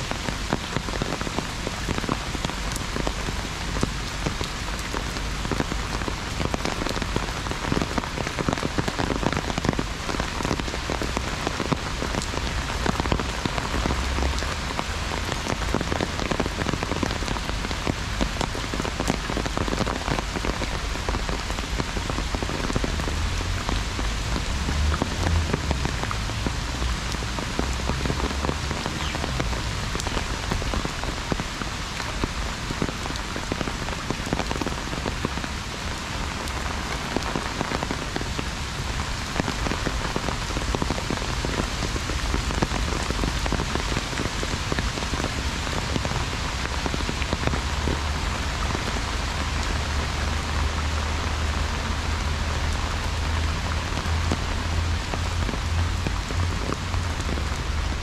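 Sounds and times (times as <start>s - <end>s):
heavy rain on an umbrella: 0.0s - 58.0s.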